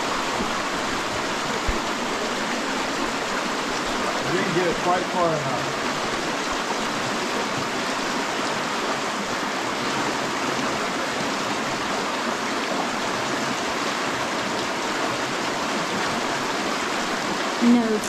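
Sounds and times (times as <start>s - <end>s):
creek rushing over stones: 0.0s - 18.0s.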